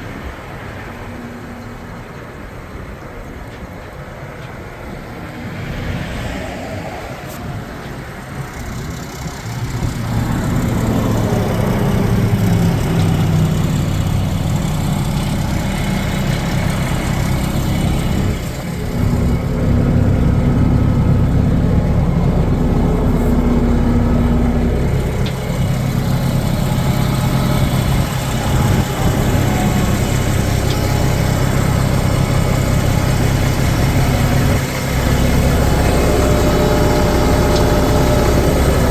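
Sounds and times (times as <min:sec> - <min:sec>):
diesel truck engine running: 0:07.2 - 0:38.9.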